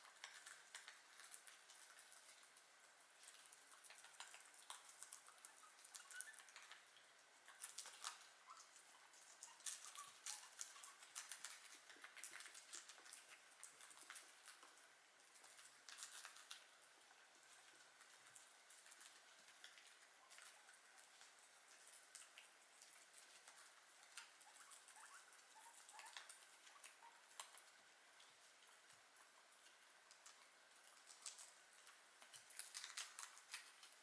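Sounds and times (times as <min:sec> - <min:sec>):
guinea pigs chewing vegetables: 0:00.0 - 0:34.0.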